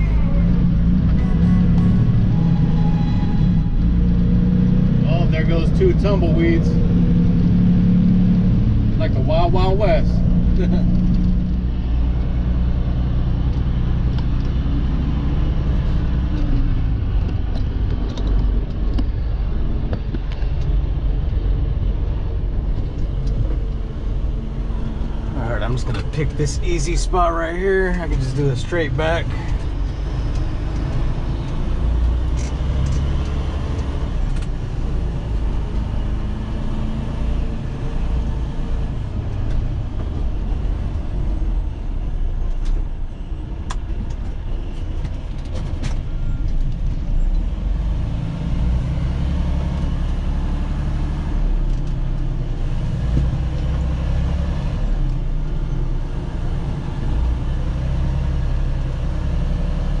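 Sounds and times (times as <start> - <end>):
diesel truck engine rumbling: 0.0 - 60.0.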